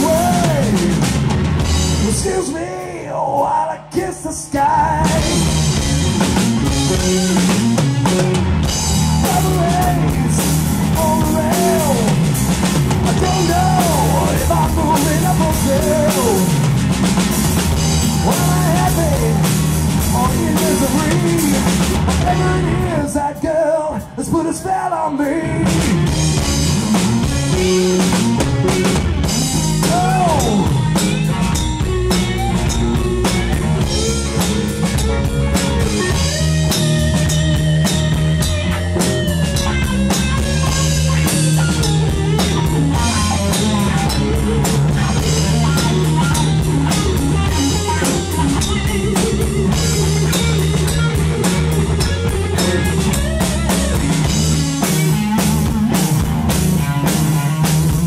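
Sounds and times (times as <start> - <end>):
live rock band: 0.0 - 58.0
lead electric guitar bending notes: 4.9 - 23.2, 25.4 - 58.0.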